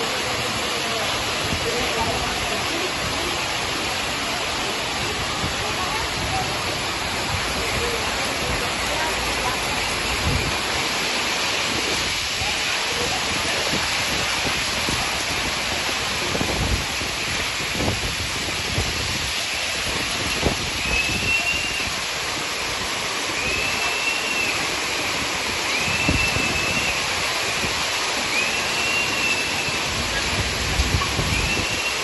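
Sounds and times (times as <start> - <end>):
heavy rain and hail: 0.0 - 32.0.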